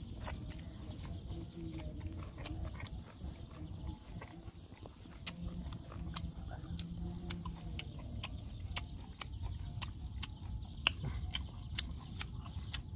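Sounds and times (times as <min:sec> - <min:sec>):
chewing crunchy fruit: 0:00.0 - 0:12.9
low steady hum: 0:00.0 - 0:12.9.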